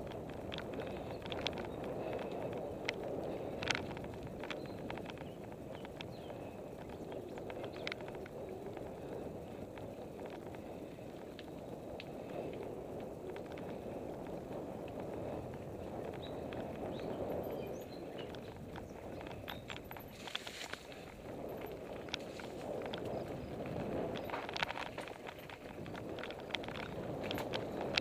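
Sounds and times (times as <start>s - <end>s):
bike clicks and rattles: 0.0s - 28.0s
bike tyres rumbling on dirt: 0.0s - 28.0s.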